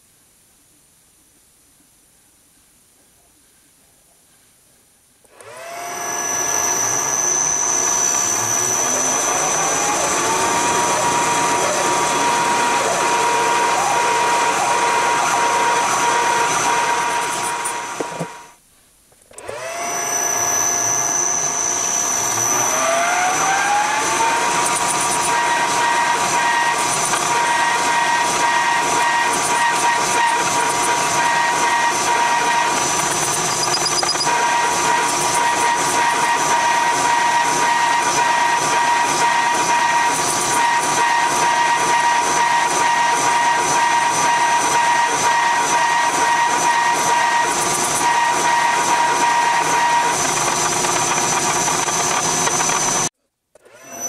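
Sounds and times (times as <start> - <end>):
drill boring into metal: 5.3 - 18.6, 19.3 - 54.0
metal lathe whine: 5.3 - 18.6, 19.4 - 53.1.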